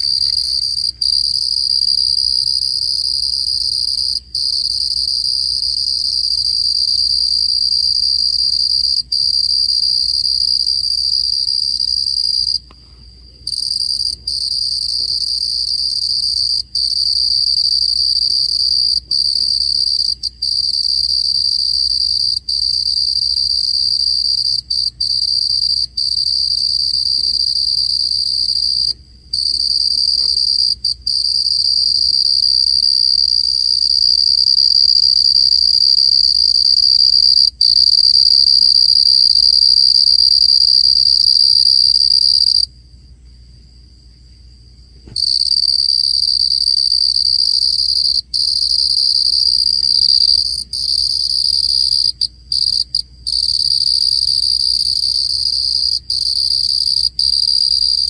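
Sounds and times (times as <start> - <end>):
cricket trilling: 0.0 - 58.0.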